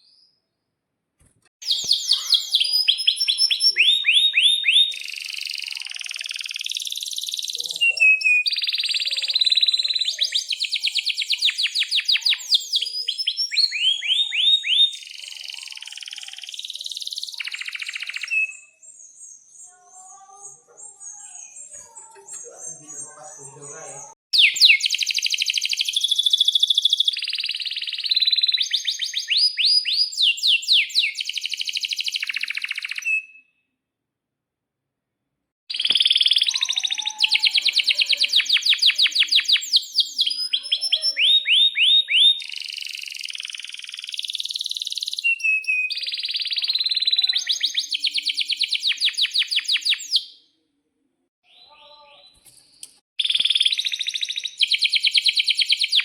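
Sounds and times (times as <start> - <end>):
canary singing trills: 1.6 - 33.5, 35.7 - 50.5.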